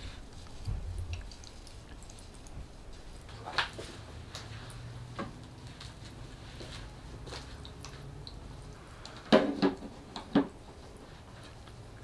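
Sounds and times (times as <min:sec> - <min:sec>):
water spattering and dripping: 0:00.0 - 0:10.3.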